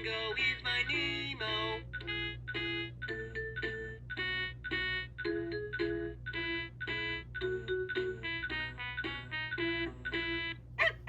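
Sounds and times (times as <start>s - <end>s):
steady low hum: 0.0s - 11.0s
electronic toy melody: 1.0s - 10.7s.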